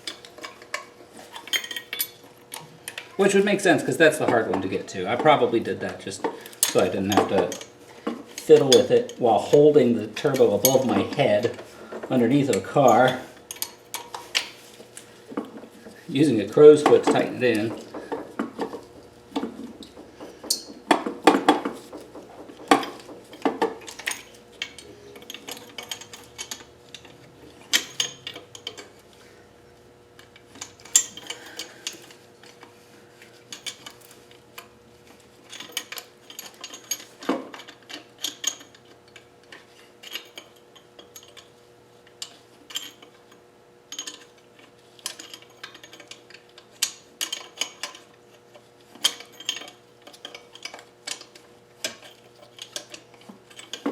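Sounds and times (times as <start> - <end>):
metal tools clinking: 0.0 - 29.0, 30.2 - 32.7, 33.5 - 34.7, 35.5 - 41.5, 43.9 - 48.2, 49.0 - 53.9
faint steady hum: 0.0 - 53.9.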